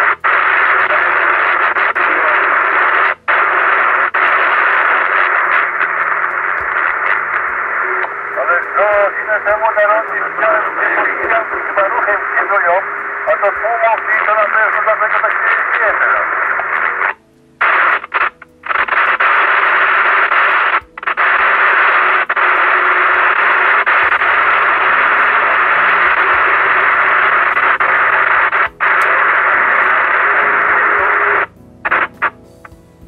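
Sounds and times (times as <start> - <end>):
choppy radio noise bursts: 0.0 - 32.4
radio static noise: 0.0 - 32.8.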